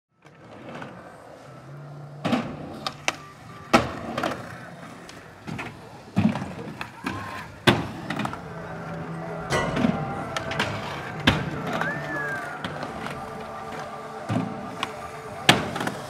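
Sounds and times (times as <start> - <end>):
skateboard clacks: 0.2 - 16.0
skateboard wheels rolling on concrete: 0.2 - 16.0.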